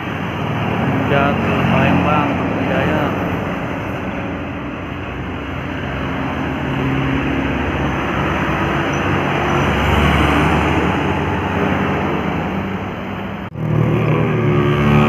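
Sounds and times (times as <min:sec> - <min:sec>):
heavy vehicle engine labouring: 0:00.0 - 0:15.0
road noise: 0:00.0 - 0:15.0.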